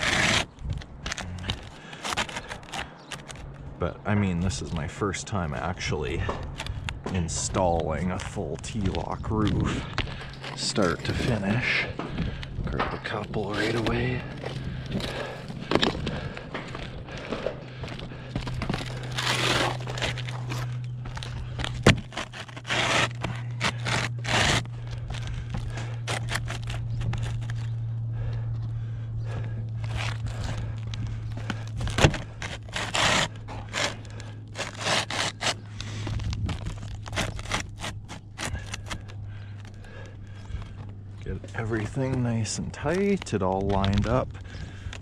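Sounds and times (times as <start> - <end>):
shingles scraping and rustling: 0.0 - 3.6, 6.0 - 27.7, 29.8 - 40.8, 41.4 - 45.0
steady low hum: 0.0 - 45.0.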